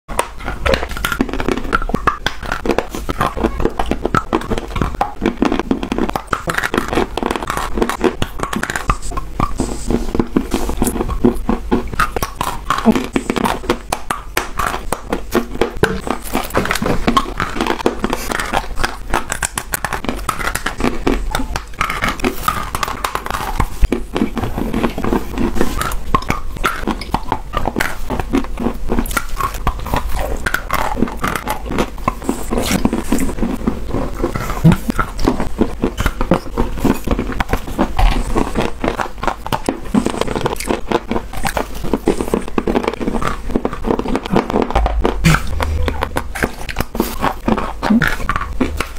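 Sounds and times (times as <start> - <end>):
crunching and chewing: 0.1 - 48.9.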